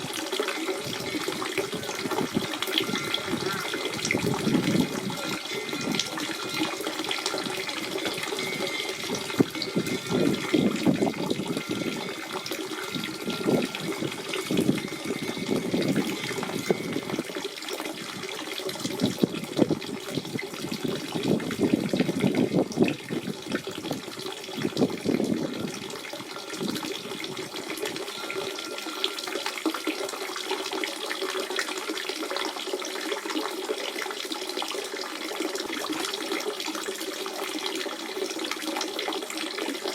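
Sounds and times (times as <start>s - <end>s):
spring water running and splashing: 0.0s - 39.9s.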